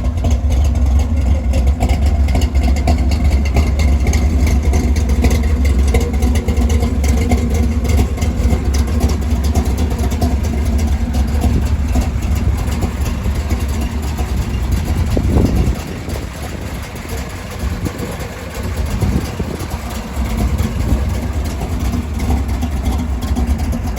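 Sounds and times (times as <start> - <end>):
car engine idling: 0.0 - 23.9
engine revving: 0.0 - 23.9.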